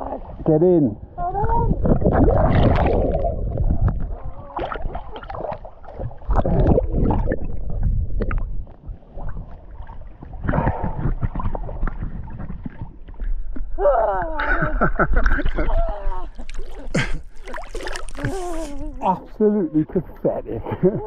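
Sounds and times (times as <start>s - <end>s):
wind rumbling on microphone: 0.0s - 17.1s
water sloshing and splashing: 0.0s - 20.1s.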